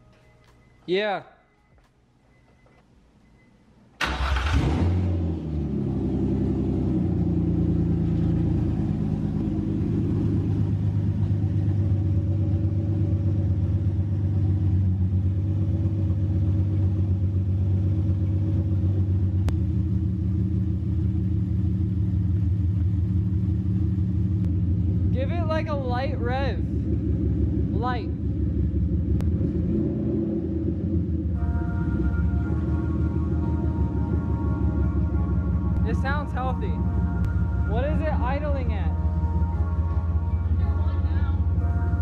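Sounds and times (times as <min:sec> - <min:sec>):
car engine starting and idling: 0:01.6 - 0:42.0.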